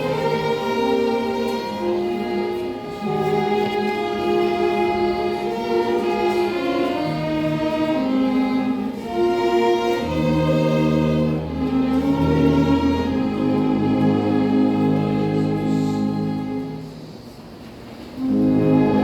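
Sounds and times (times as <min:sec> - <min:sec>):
strings and brass playing a hymn: 0:00.0 - 0:19.0.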